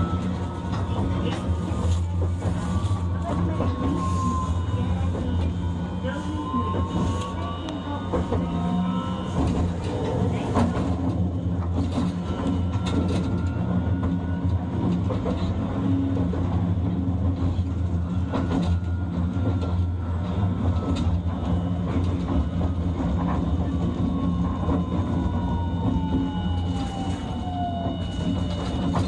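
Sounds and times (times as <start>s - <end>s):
tram wheels rumbling on rail: 0.0s - 29.0s.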